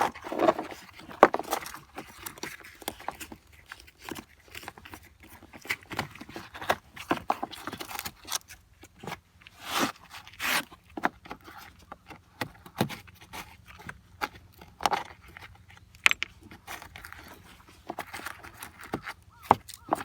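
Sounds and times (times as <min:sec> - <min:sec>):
tools and parts clicking and scraping: 0:00.0 - 0:08.6, 0:09.7 - 0:20.0.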